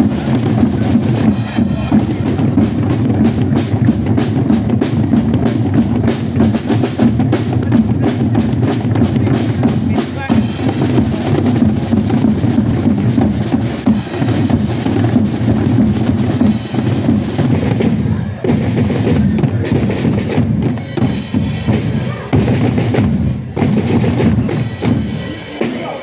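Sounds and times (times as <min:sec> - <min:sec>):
bass drum beating: 0:00.0 - 0:25.9
snare drums beating: 0:00.0 - 0:26.0.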